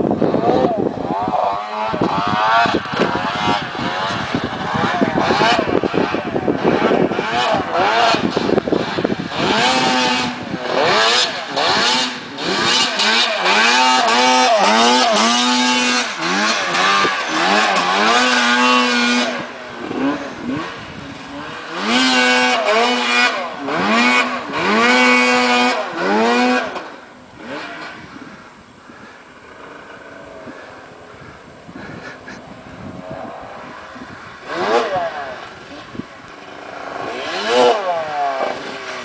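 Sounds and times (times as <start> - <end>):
snowmobile engine revving: 0.0 - 39.0.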